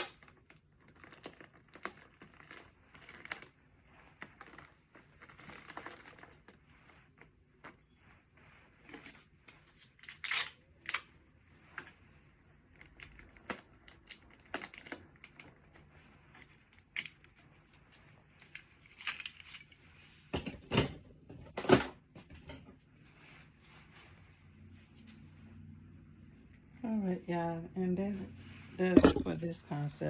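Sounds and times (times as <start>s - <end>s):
items being handled: 0.0s - 25.3s, 28.5s - 29.6s.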